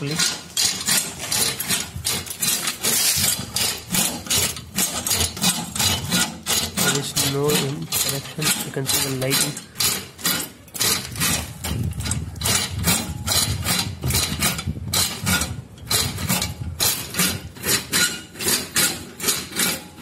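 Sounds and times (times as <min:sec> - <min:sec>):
metallic clanking and gear rattle: 0:00.0 - 0:20.0.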